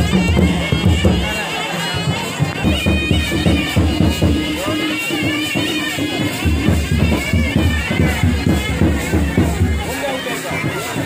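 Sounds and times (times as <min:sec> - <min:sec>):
crowd murmuring: 0:00.0 - 0:11.0
quick drumbeats: 0:00.0 - 0:11.0
shrill reed pipe melody: 0:00.0 - 0:11.0.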